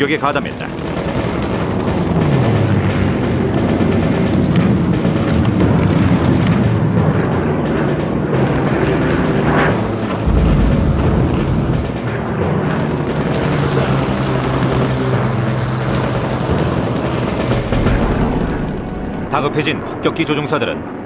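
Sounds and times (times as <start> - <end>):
machine-gun fire: 0.0 - 6.8, 7.7 - 20.0
piston aircraft engines droning: 0.0 - 21.0
low boom: 1.6 - 20.5.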